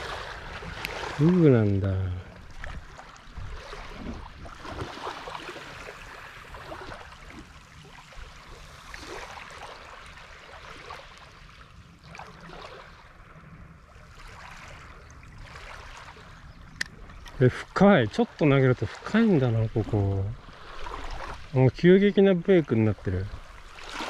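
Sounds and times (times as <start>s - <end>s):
small waves washing on shore: 0.0s - 24.0s.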